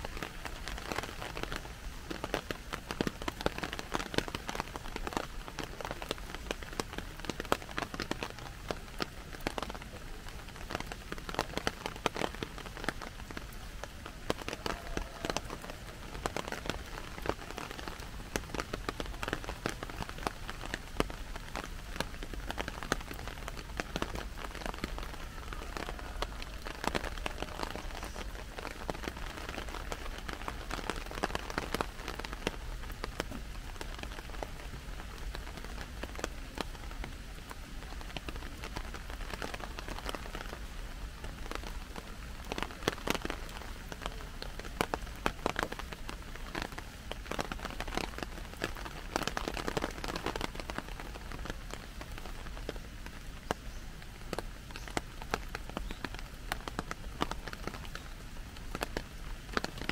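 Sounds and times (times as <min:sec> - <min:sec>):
rain drops hitting umbrella: 0:00.0 - 0:59.9
steady hiss of rain: 0:00.0 - 0:59.9.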